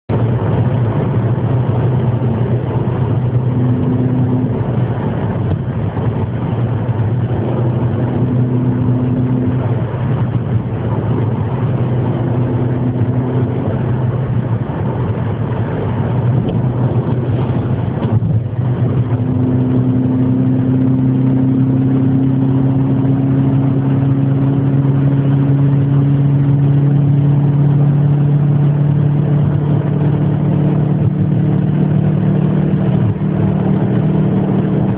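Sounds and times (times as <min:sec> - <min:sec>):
car engine running: 0:00.1 - 0:34.9.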